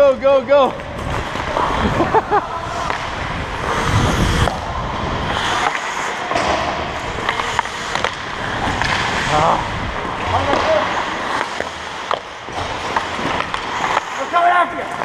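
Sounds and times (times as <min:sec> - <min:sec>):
skate blades scraping ice: 0:00.7 - 0:15.0.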